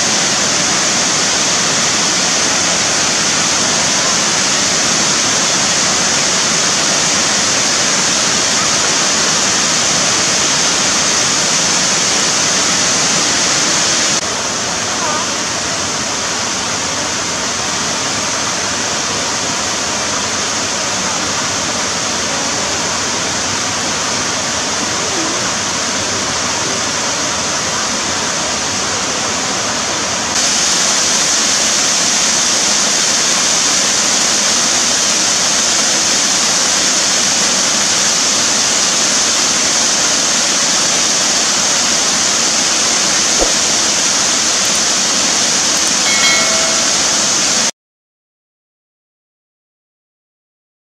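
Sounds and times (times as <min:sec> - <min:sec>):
waterfall rushing: 0:00.0 - 0:47.7.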